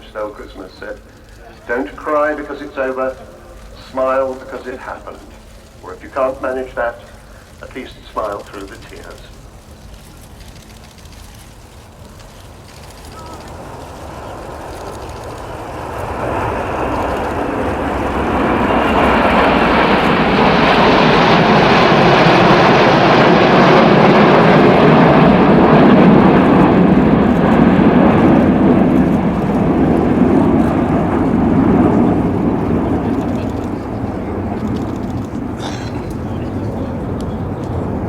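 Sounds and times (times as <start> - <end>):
jets roaring overhead: 0.0 - 38.0.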